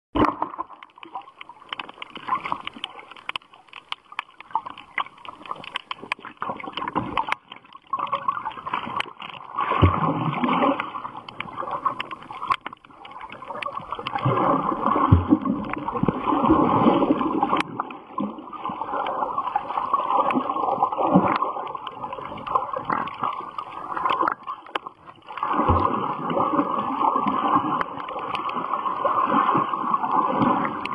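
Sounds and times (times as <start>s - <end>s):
muffled underwater rushing water: 0.2s - 30.9s.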